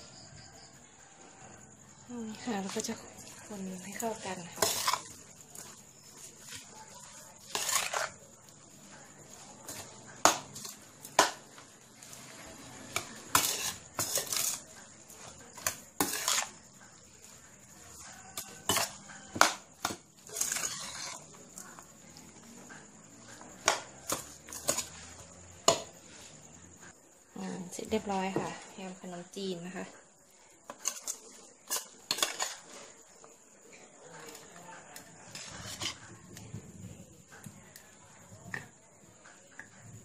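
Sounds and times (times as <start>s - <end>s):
food scraping and squelching: 2.1s - 27.0s, 30.3s - 38.8s.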